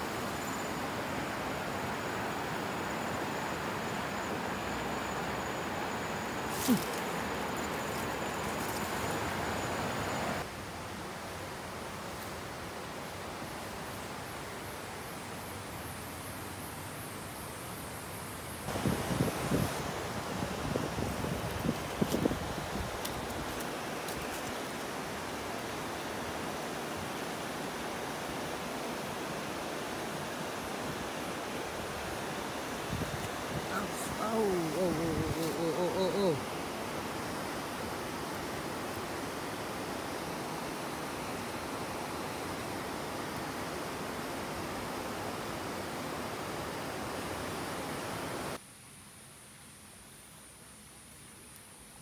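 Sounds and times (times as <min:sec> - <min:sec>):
steady rushing hiss: 0:00.0 - 0:52.0.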